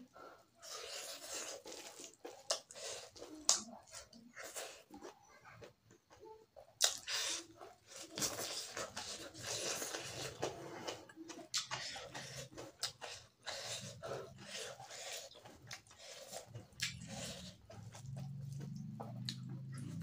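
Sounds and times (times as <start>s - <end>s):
wet chewing and lip smacking: 0.6s - 5.8s, 6.6s - 20.0s.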